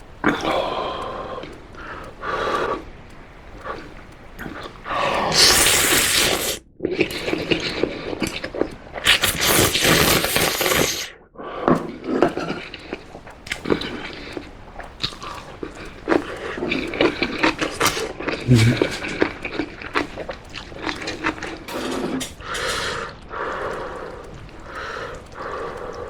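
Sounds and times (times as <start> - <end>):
chewing with wet clicks: 0.0 - 26.0
noisy noodle slurps: 3.4 - 26.0.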